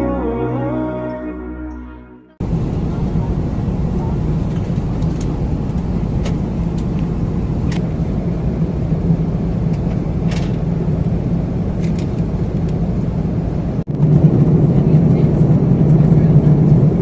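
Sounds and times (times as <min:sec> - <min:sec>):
airliner cabin drone: 0:02.4 - 0:17.0.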